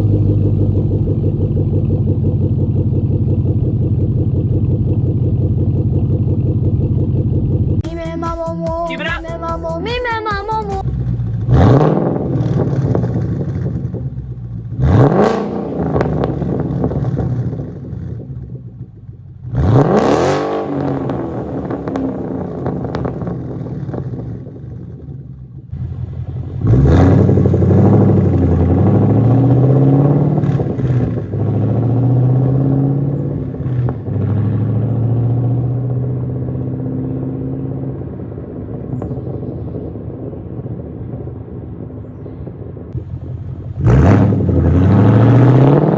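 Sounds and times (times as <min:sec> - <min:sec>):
car engine hard acceleration: 0:00.0 - 0:07.8, 0:10.8 - 0:45.9
car engine throttle blips: 0:00.0 - 0:45.9.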